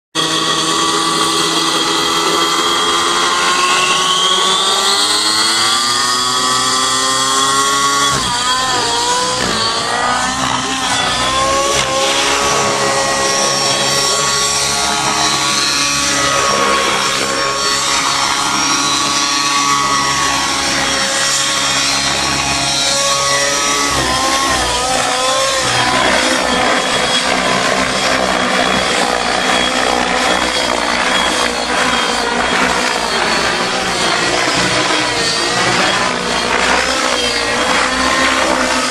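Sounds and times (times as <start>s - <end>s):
model helicopter whine: 0.2s - 38.9s.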